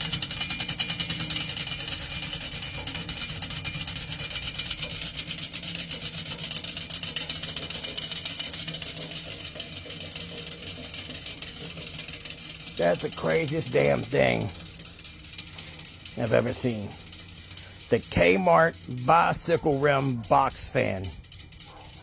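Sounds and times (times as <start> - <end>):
fan hum: 0.0 - 22.0
fast even ticking of spokes: 0.0 - 22.0.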